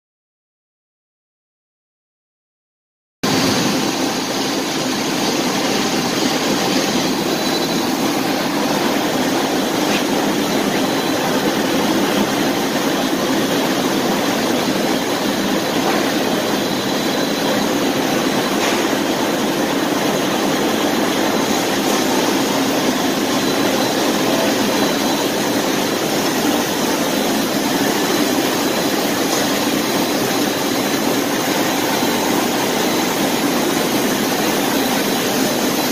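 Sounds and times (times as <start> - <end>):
paper machine running: 3.3 - 35.9.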